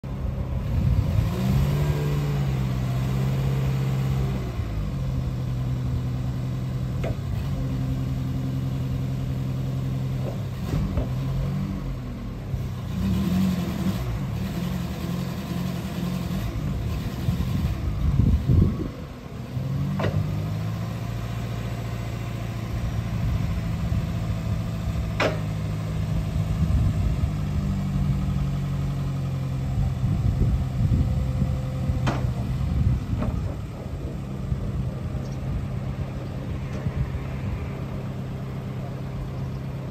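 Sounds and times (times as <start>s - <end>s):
forklift engine running: 0.0s - 39.9s.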